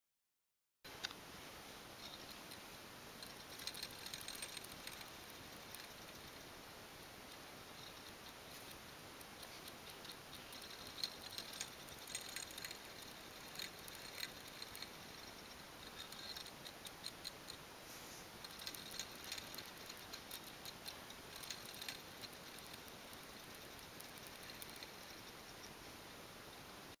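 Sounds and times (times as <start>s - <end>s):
coil motor clicking: 2.0s - 17.7s, 18.3s - 25.8s.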